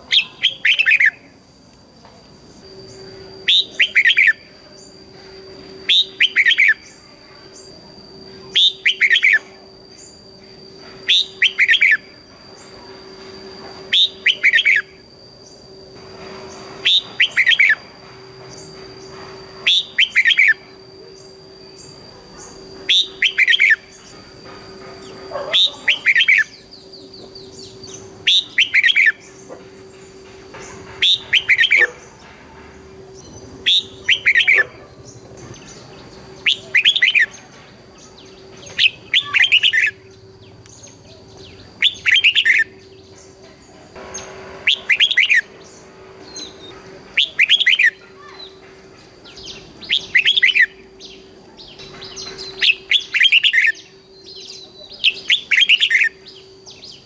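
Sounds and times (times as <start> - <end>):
bulbul singing: 0.0 - 1.6, 2.5 - 57.0
faint steady hum: 0.0 - 57.0.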